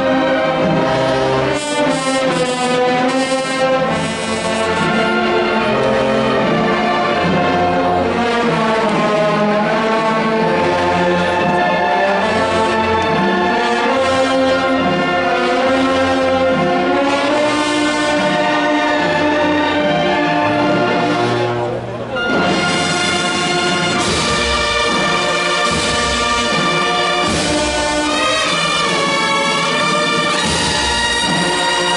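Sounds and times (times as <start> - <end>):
brass band playing slow march: 0.0 - 31.9.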